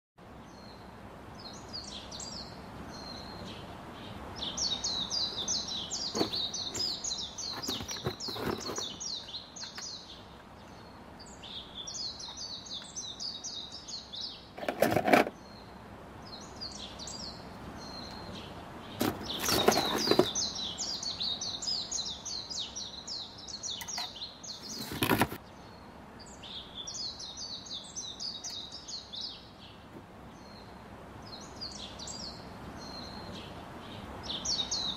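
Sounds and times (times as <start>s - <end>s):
small birds twittering: 0.3s - 34.9s.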